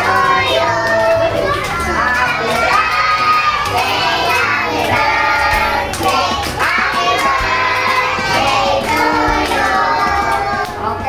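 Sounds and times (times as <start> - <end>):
music: 0.0 - 11.0
young children singing: 0.0 - 11.0.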